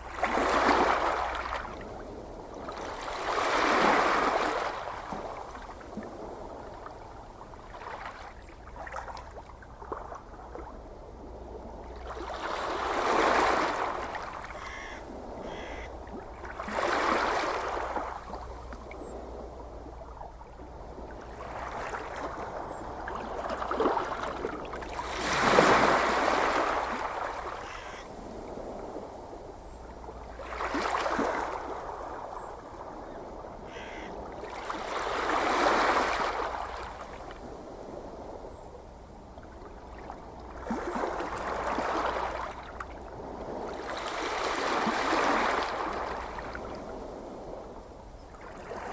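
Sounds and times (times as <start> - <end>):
ocean waves washing ashore: 0.0 - 48.9.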